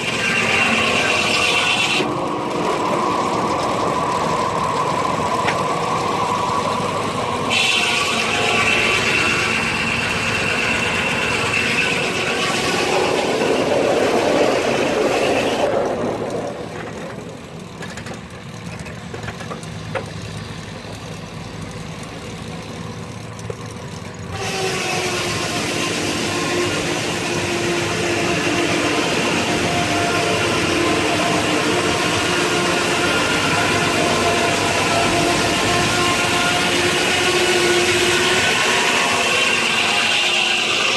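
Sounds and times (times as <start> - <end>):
steam sawmill machinery drone: 0.0 - 40.9.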